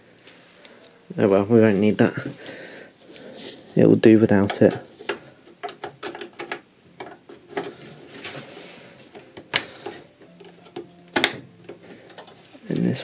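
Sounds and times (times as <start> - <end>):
cables rustling: 1.7 - 13.0.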